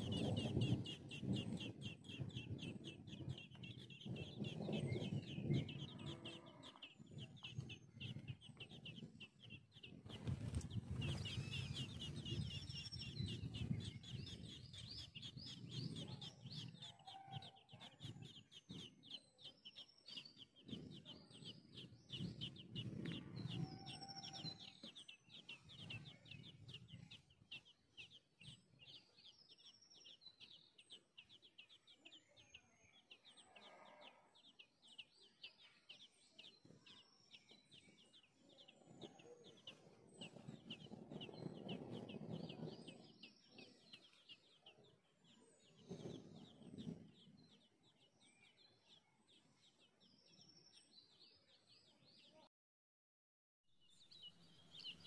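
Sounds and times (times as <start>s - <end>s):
lower bird calls: 0.0s - 47.6s
flock of birds chirping: 0.0s - 52.5s, 53.8s - 55.0s.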